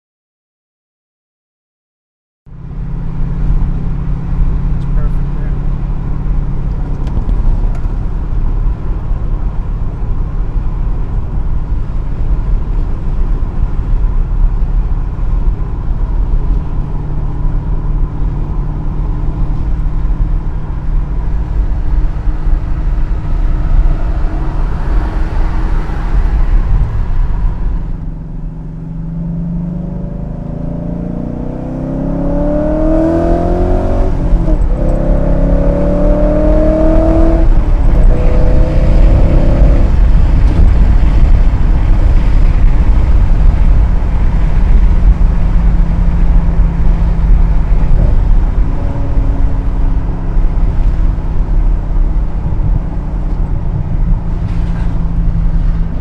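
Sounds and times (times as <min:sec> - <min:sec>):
car engine accelerating: 0:02.5 - 0:56.0.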